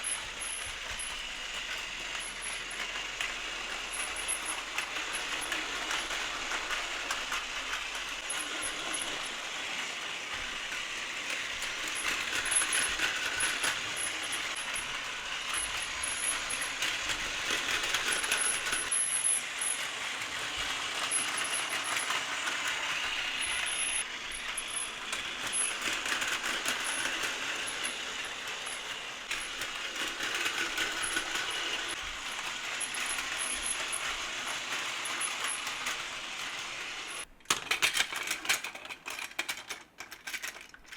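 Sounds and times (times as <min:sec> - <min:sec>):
toy trains rattling on plastic track: 0:00.0 - 0:40.9.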